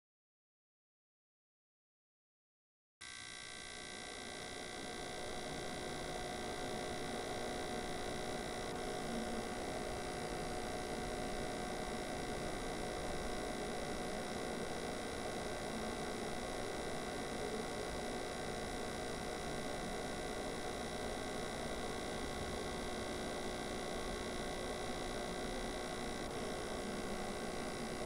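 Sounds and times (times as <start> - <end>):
steady hum of held tones: 3.0 - 28.0.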